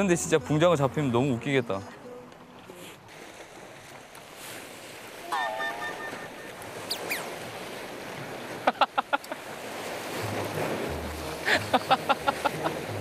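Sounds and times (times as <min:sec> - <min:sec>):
waves washing on rocky shore: 0:01.9 - 0:13.0.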